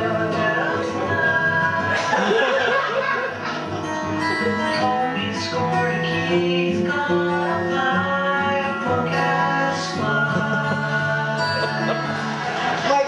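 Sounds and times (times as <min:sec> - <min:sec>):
plucked string music: 0:00.0 - 0:13.0.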